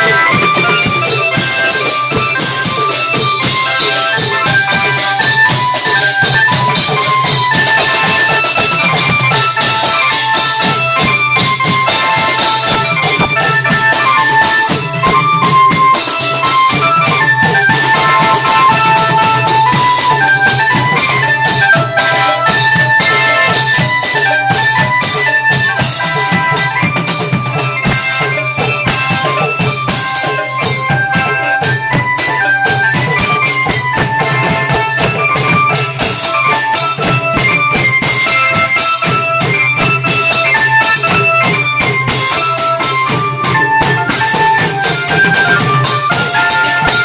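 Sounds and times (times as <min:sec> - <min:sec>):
cymbals: 0:00.0 - 0:47.0
long drums beating: 0:00.0 - 0:47.0.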